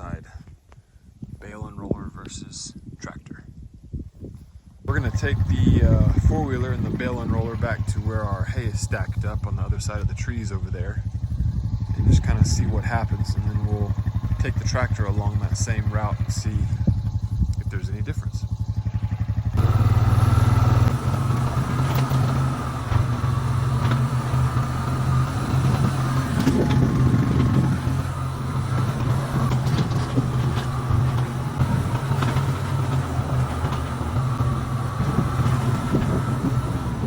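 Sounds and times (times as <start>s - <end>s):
quad bike engine running: 4.9s - 37.0s.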